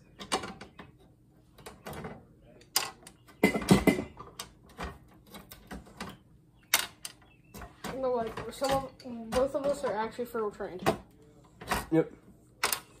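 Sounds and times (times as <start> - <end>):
tools clattering on plastic: 0.2 - 12.0.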